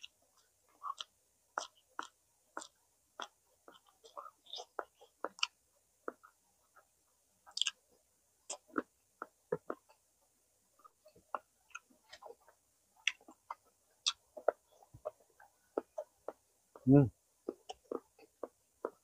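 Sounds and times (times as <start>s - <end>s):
person chewing with mouth clicks: 0.0s - 6.9s, 7.5s - 7.8s, 8.5s - 10.0s, 10.8s - 16.8s, 17.4s - 19.0s.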